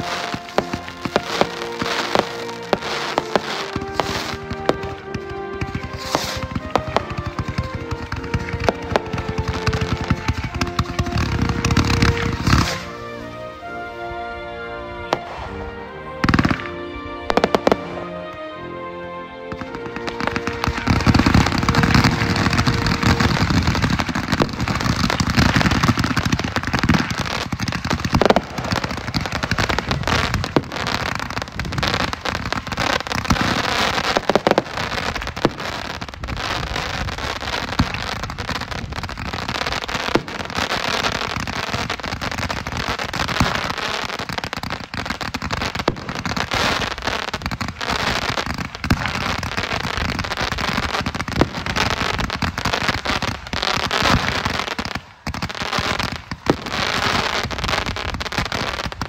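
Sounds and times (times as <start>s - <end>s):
fireworks bangs: 0.0s - 14.4s, 15.0s - 18.7s, 19.5s - 59.0s
fireworks crackling and popping: 0.0s - 18.6s, 19.5s - 59.0s.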